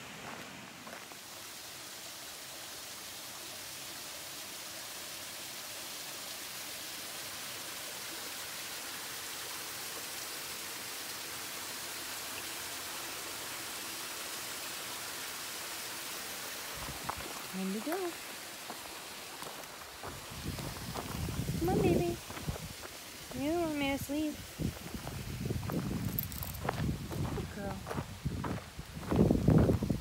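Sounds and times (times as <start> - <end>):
creek water rushing: 0.0 - 30.0.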